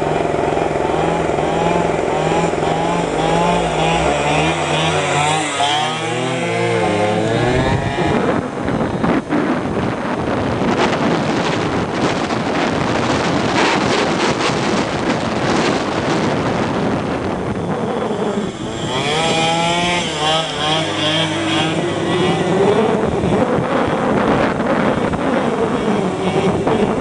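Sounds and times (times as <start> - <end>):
scooter engines running hard: 0.0 - 27.0
wind on microphone: 0.0 - 27.0.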